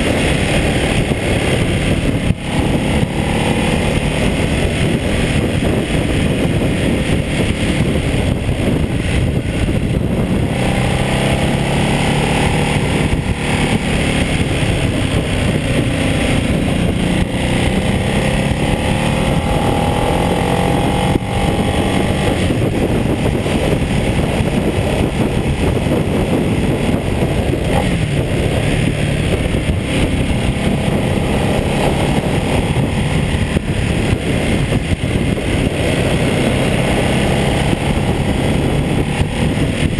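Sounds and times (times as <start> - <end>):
motorcycle engine at speed: 0.0 - 39.9
wind rushing on camera: 0.0 - 39.9.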